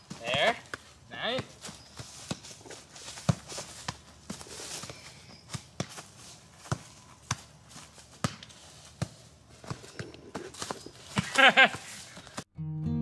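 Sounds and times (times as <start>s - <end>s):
soccer ball being kicked: 0.0s - 11.8s
footsteps shuffling in dry leaves: 0.2s - 12.4s.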